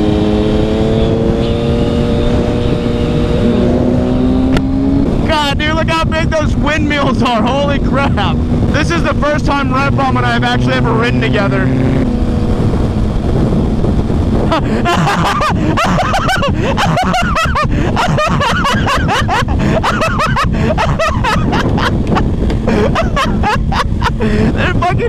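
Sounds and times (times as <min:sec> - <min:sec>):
motorcycle engine cruising: 0:00.0 - 0:25.0
wind rush on microphone: 0:00.0 - 0:25.0.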